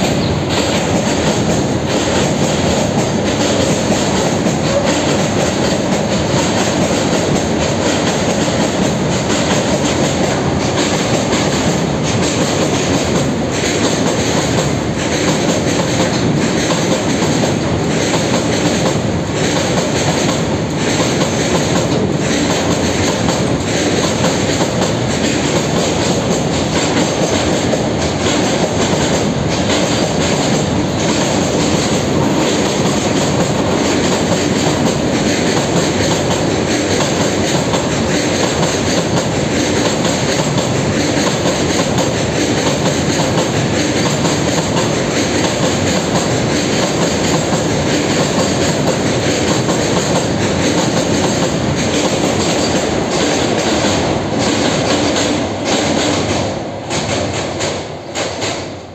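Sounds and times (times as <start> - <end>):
train rumbling over bridge: 0.0 - 58.9.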